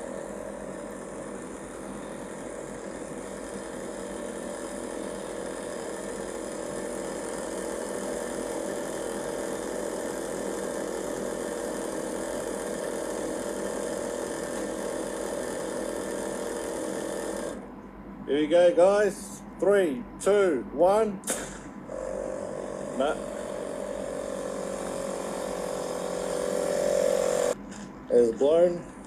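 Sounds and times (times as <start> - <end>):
air compressor running: 0.0 - 20.2, 20.8 - 29.0.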